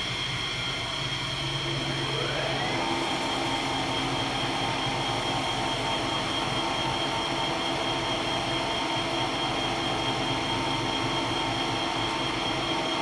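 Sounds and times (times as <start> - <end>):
metal lathe humming with high whine: 0.0 - 13.0.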